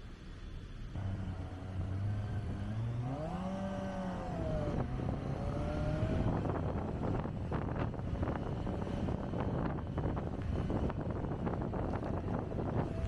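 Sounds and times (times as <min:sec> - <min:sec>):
motorcycle engine revving: 0:01.0 - 0:13.0
wind noise: 0:01.0 - 0:13.0.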